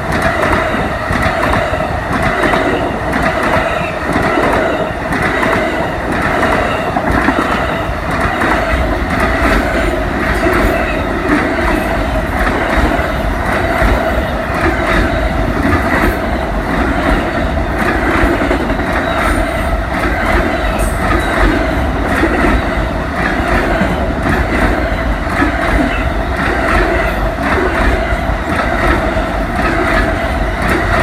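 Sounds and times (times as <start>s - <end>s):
railroad cars rolling past: 0.0s - 31.0s.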